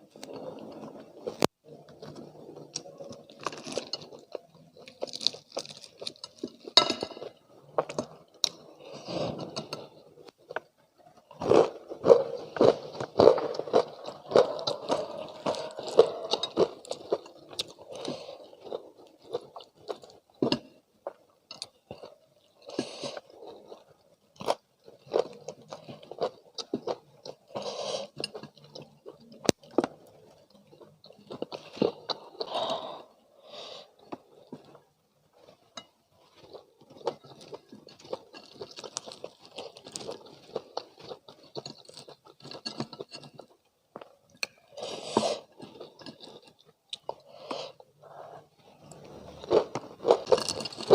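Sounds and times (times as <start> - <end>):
chewing crispy fried chicken: 0.2 - 6.8, 9.6 - 32.6, 34.0 - 44.6, 48.8 - 50.9.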